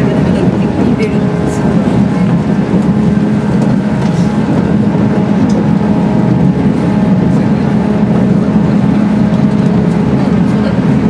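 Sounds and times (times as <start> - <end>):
constant hum: 0.0 - 11.0
train running rumble: 0.0 - 11.0.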